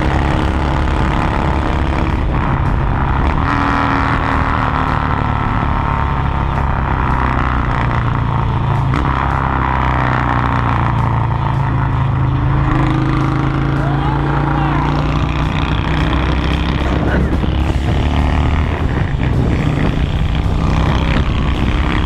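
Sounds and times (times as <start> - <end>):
motorcycle engine through loud exhaust: 0.0 - 22.0.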